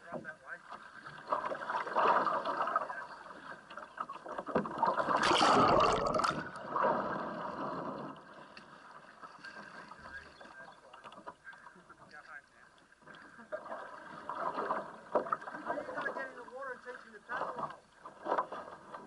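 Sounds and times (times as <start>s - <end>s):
water splashing and rushing: 0.0s - 19.0s.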